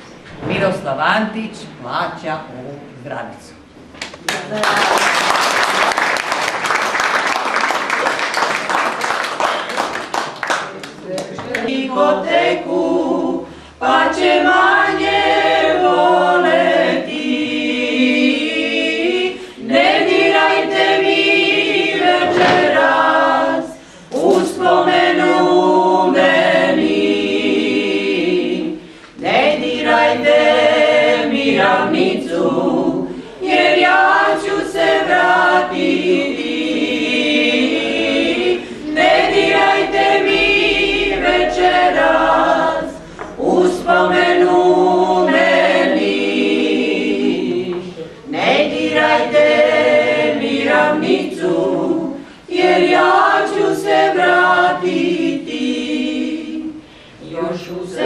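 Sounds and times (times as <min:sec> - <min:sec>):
women singing a cappella: 0:11.3 - 0:58.0.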